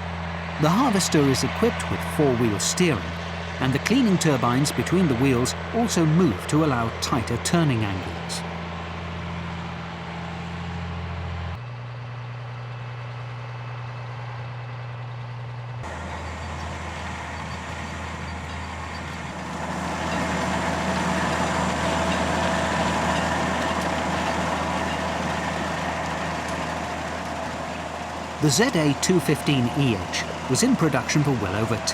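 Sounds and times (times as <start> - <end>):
machinery noise: 0.0 - 11.5, 15.8 - 31.9
diesel engine running: 0.0 - 31.9.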